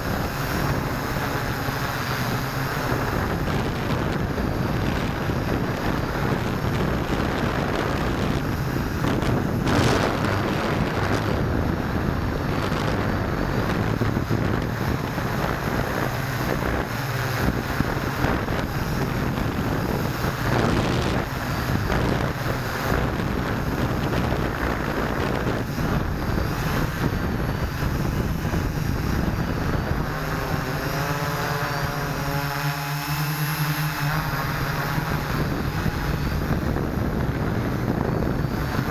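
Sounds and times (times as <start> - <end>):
drone motors and propellers droning: 0.0 - 38.9
wind rushing over microphone: 0.0 - 38.9.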